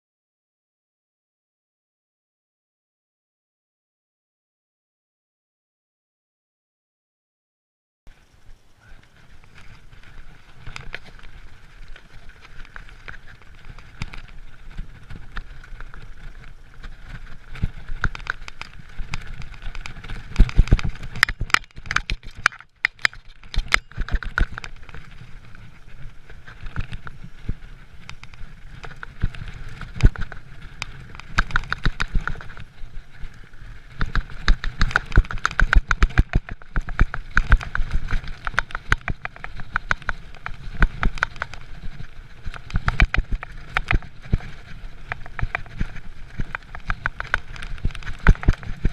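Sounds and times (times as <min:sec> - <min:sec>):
bike rattling and knocking: 0:09.4 - 0:48.9.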